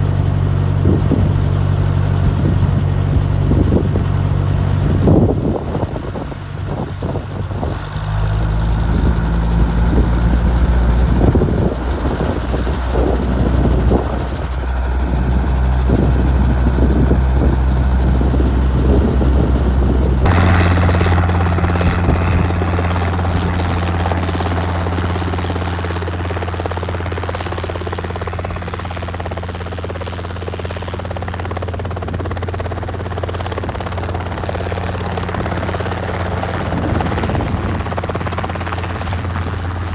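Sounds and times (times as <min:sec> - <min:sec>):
helicopter engine and rotor drone: 0:00.0 - 0:39.9
wind rumbling on microphone: 0:00.0 - 0:39.9.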